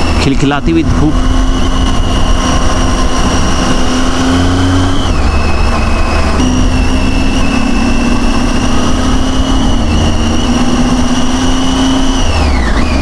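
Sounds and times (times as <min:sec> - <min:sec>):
wind rushing: 0:00.0 - 0:11.6
motorcycle engines running: 0:00.0 - 0:13.0.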